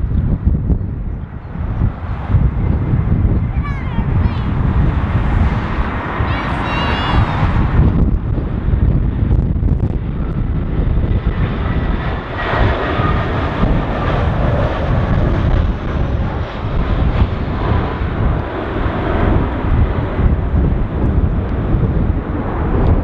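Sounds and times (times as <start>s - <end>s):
jet engine whine: 0.0s - 23.0s
jet engines rumbling: 0.0s - 23.0s
wind buffeting microphone: 0.0s - 23.0s.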